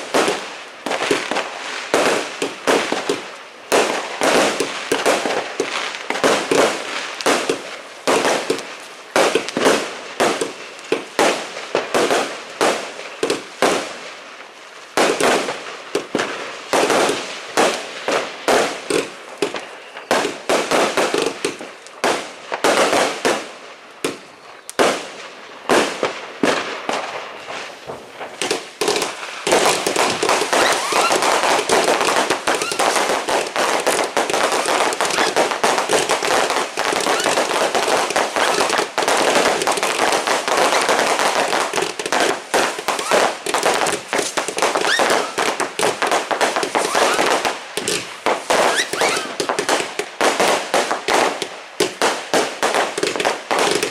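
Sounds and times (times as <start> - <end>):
fireworks bangs and pops: 0.0 - 53.9.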